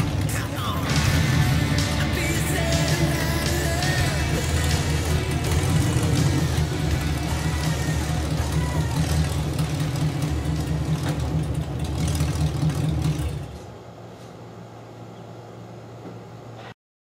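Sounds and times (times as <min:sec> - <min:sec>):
car engine rumbling: 0:00.0 - 0:14.1.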